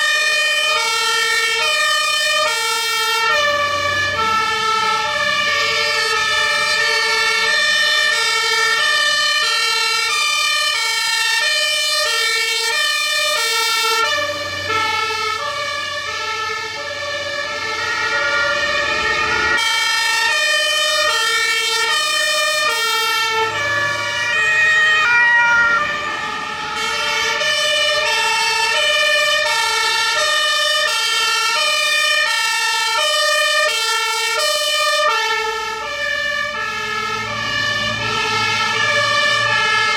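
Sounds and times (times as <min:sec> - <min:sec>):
fire engine two-tone sirens: 0:00.0 - 0:39.9.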